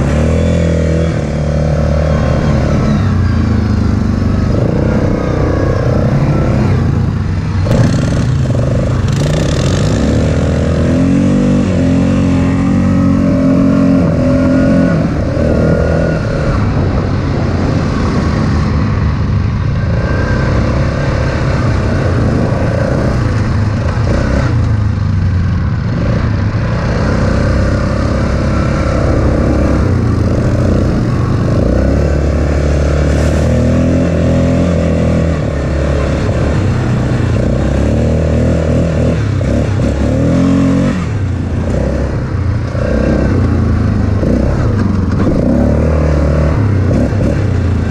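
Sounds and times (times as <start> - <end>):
quad bike engine revving: 0.0 - 47.9.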